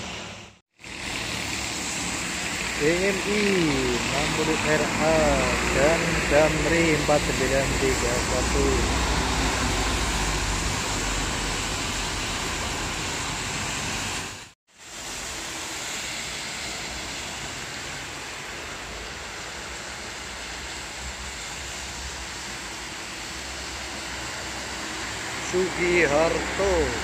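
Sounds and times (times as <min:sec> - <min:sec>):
traffic hiss on wet road: 0:00.0 - 0:27.0
steady rain: 0:02.0 - 0:27.0.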